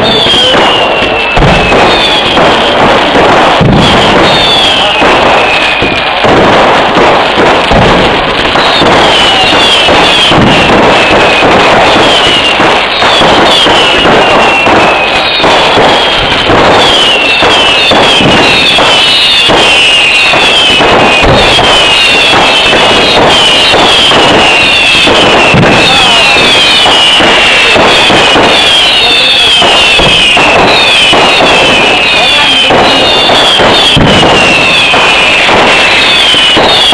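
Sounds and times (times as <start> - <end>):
firework whistles falling in pitch: 0.0 - 36.9
fireworks bangs and crackling: 0.0 - 36.9.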